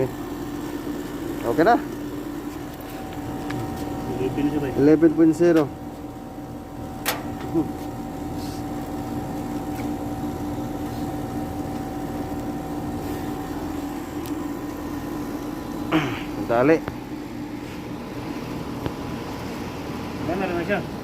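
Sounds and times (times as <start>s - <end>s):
air conditioner compressor humming: 0.0s - 21.0s
fan noise: 0.0s - 21.0s.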